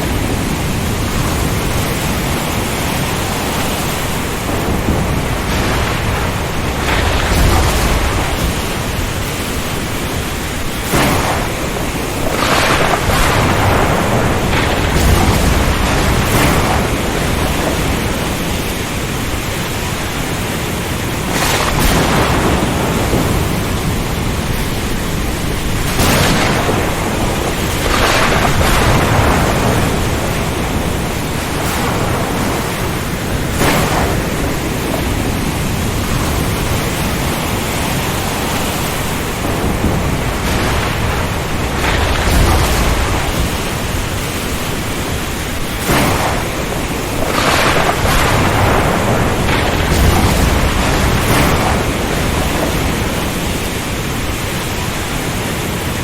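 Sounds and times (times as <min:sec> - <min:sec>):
heavy rain and wind: 0:00.0 - 0:56.0
thunder cracks: 0:00.0 - 0:56.0
thunder rumbling: 0:00.0 - 0:56.0.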